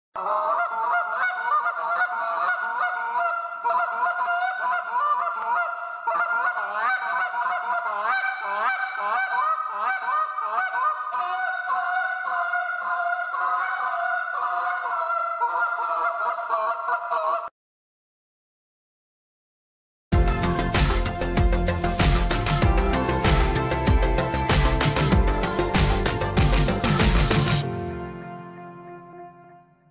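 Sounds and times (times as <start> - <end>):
geese honking: 0.2 - 17.5, 20.2 - 27.6.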